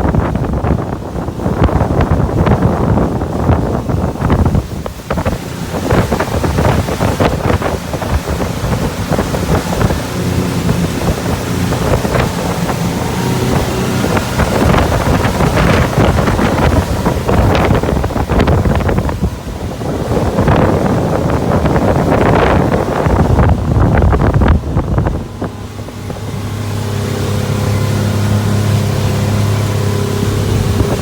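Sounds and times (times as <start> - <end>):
boat engine drone: 0.0 - 31.0
wind buffeting on microphone: 0.0 - 31.0.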